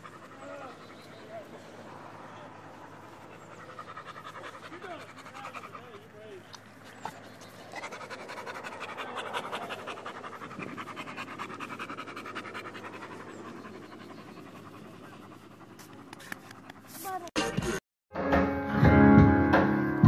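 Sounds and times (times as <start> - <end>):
dog panting: 0.0 - 17.4.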